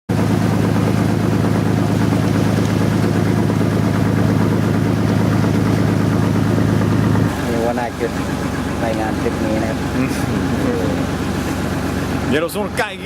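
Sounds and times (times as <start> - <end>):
boat engine droning: 0.1 - 13.0.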